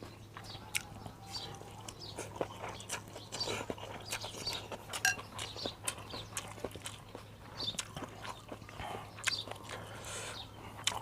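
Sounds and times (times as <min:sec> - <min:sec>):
birds chirping: 0:00.0 - 0:11.0
chewing noodle soup: 0:00.0 - 0:11.0.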